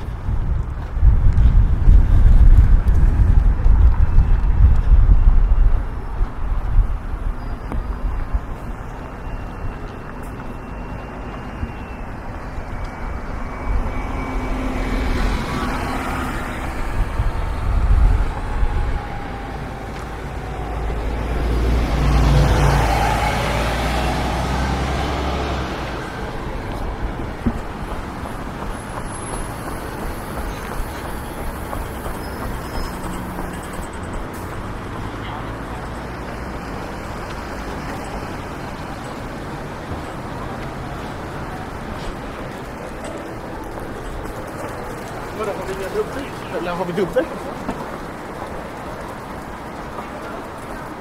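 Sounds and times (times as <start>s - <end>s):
deep vehicle rumble: 0.0s - 51.0s
motor vehicles passing: 0.0s - 51.0s.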